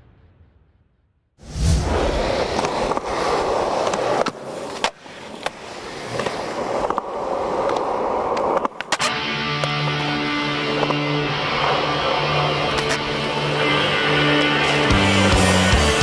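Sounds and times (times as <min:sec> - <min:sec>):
skateboard wheels rolling on concrete: 0:01.4 - 0:16.0
skateboard clacks: 0:02.4 - 0:16.0.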